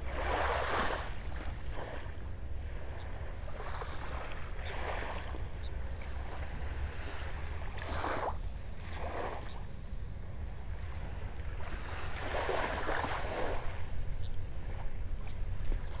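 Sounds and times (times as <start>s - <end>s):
small waves lapping at shore: 0.0s - 16.0s
wind rumble on microphone: 0.0s - 16.0s.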